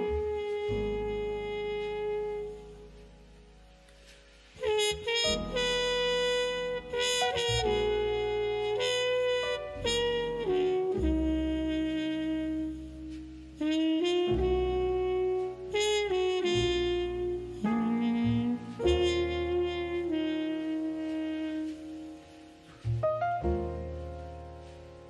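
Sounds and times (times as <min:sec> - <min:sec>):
slow instrumental music: 0:00.0 - 0:25.0.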